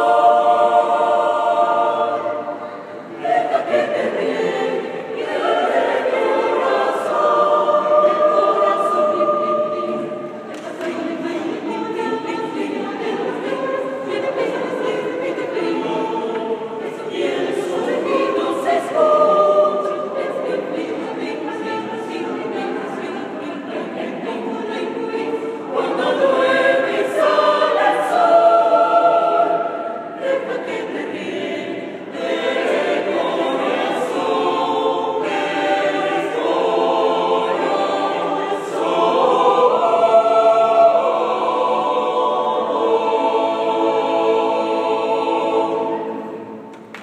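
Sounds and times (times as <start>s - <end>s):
mixed choir singing harmony: 0.0s - 47.0s.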